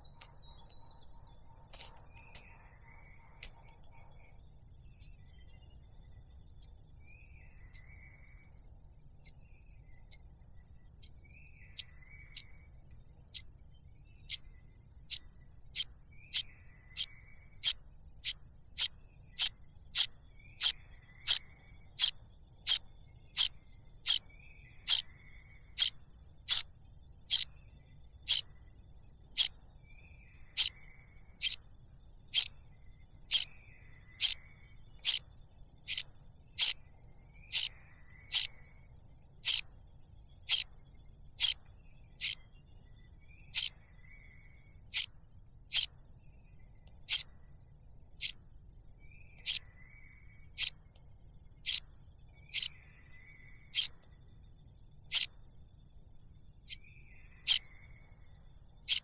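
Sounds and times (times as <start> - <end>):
faint low chirps: 0.0 - 31.6, 32.3 - 36.8, 37.5 - 38.6, 39.4 - 43.8, 44.7 - 45.1, 45.7 - 45.9, 46.6 - 47.6, 49.2 - 49.7, 50.5 - 50.9, 51.6 - 51.9, 52.5 - 52.7, 53.4 - 54.5, 55.1 - 55.3, 56.7 - 59.0.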